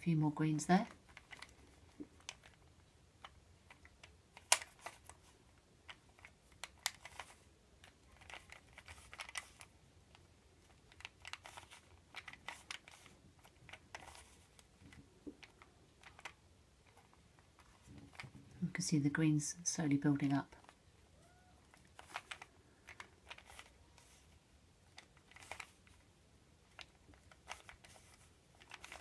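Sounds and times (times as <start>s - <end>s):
puzzle cube clicking: 0.8s - 5.2s, 5.8s - 18.3s, 21.6s - 29.0s.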